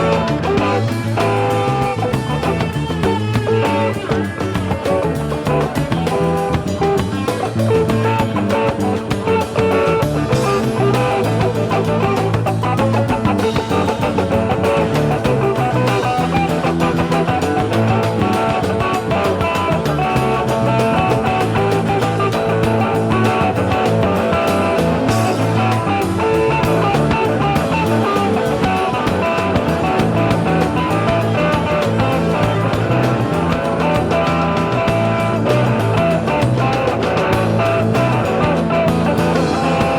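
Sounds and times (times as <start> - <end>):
rock music with electric guitar: 0.0 - 39.9.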